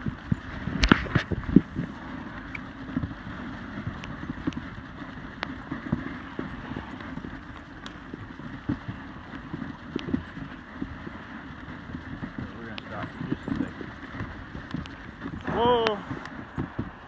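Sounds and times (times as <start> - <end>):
sled and harness clicks: 0.0 - 17.0
sled runners scraping on snow: 0.0 - 17.0.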